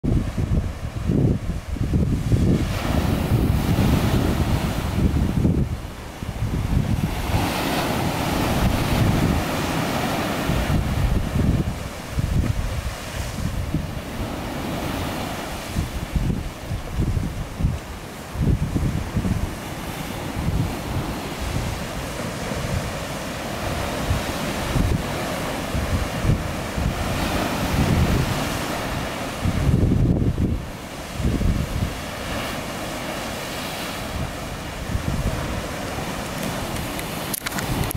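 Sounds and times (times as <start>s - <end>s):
wind buffeting microphone: 0.0s - 37.9s
surf breaking on rocks: 0.1s - 37.9s.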